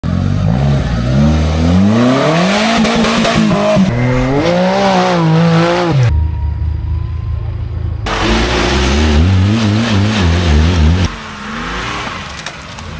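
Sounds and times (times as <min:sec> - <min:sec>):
vehicle engine revving: 0:00.0 - 0:06.1, 0:08.1 - 0:12.9.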